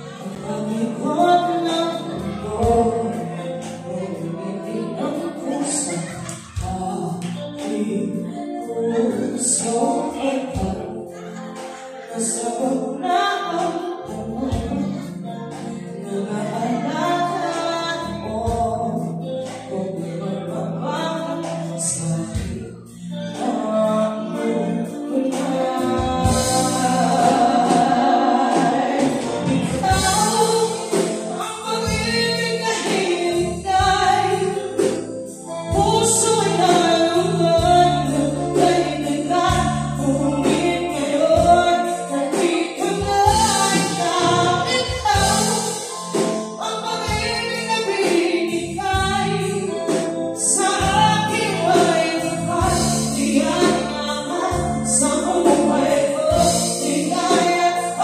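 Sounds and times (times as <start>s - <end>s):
drums: 0.0s - 8.0s, 9.1s - 58.0s
electric guitar: 0.0s - 58.0s
live band playing: 0.0s - 58.0s
woman singing: 0.0s - 58.0s.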